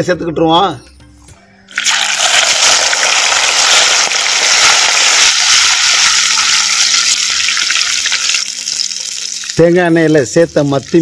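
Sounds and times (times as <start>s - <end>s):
fish sizzling in hot oil: 1.7s - 11.0s.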